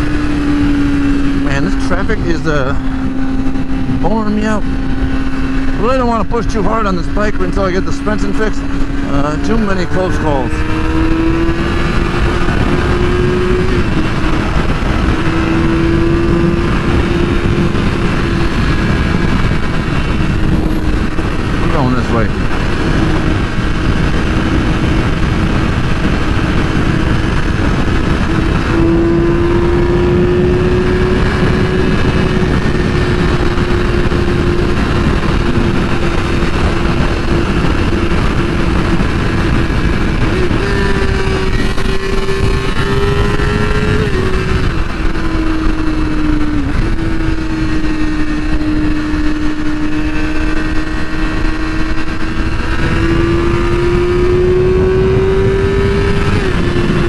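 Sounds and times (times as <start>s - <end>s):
motorcycle engine cruising: 0.0s - 57.0s
wind and road rush: 0.0s - 57.0s.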